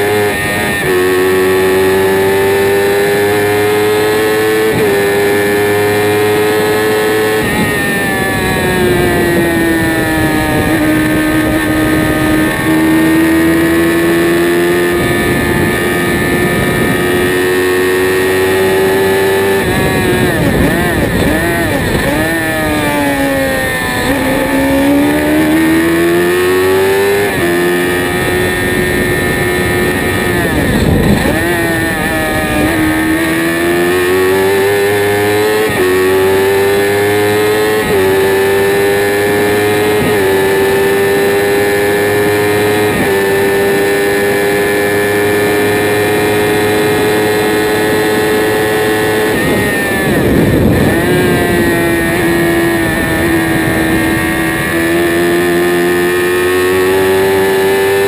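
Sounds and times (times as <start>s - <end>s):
racing car engine: 0.0s - 58.0s.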